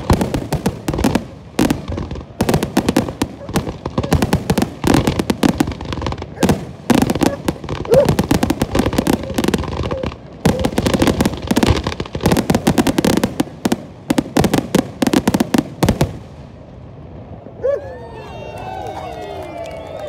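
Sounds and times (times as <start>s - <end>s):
fireworks bangs and crackles: 0.0s - 17.5s.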